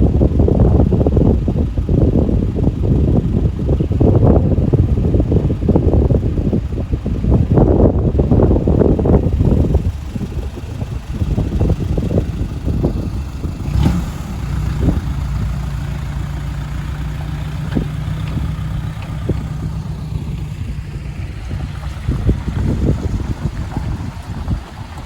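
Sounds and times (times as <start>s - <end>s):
diesel truck engine droning: 0.0s - 25.0s
wind buffeting microphone: 0.0s - 25.0s.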